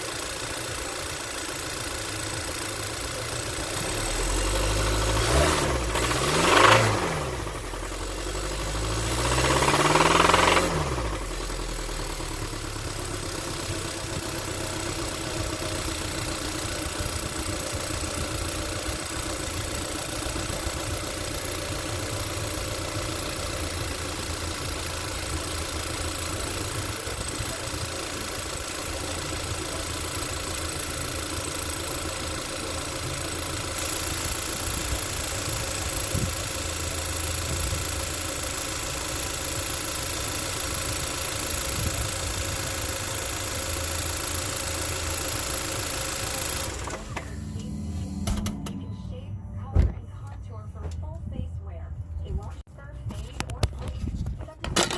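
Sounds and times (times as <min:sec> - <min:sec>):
car engine revving and idling: 0:00.0 - 0:52.6.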